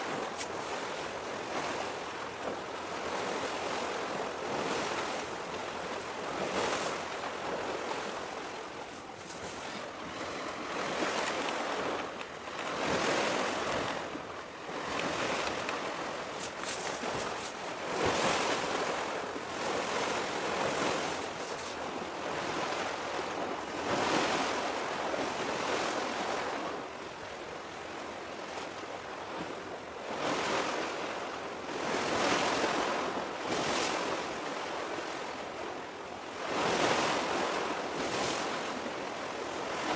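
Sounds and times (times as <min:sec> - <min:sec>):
sea waves washing on shore: 0:00.0 - 0:39.9
wind on microphone: 0:00.0 - 0:39.9.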